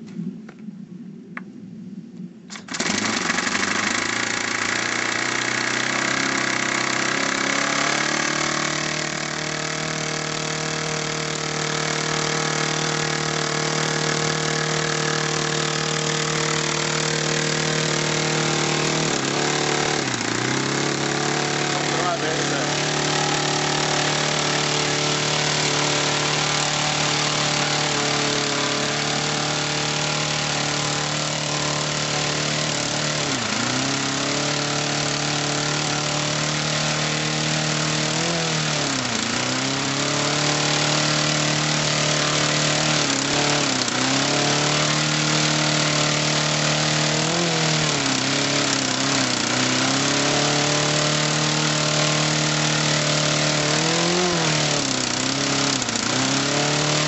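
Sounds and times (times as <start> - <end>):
model engine running: 2.5 - 57.0.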